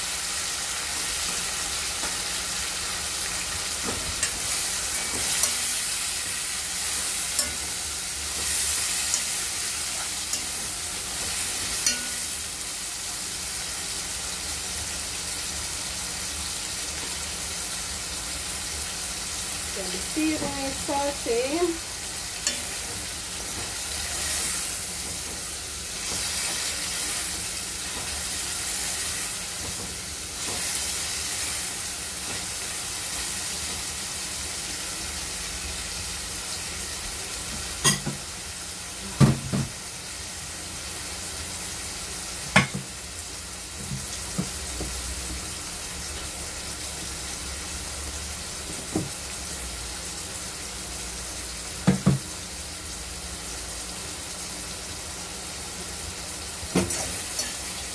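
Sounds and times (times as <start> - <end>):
vegetables sizzling in a pot: 0.0 - 57.9.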